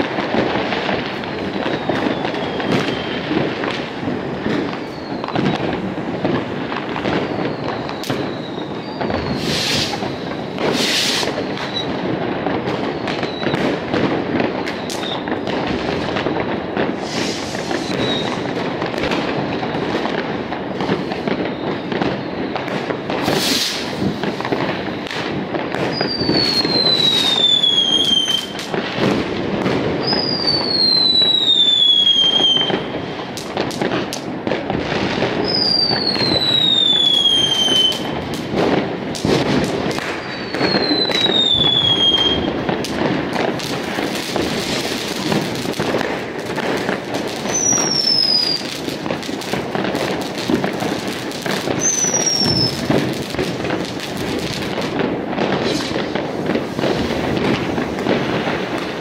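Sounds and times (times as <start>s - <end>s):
fireworks bangs and crackling: 0.0s - 59.0s
whistling firework: 0.0s - 59.0s.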